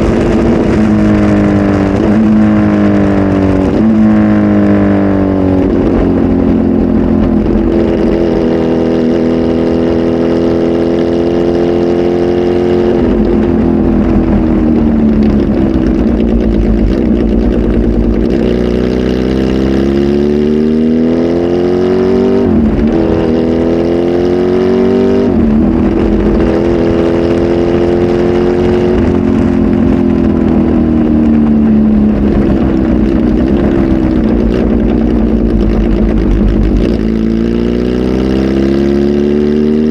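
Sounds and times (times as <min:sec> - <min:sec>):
loud motorcycle engine revving: 0:00.0 - 0:39.9.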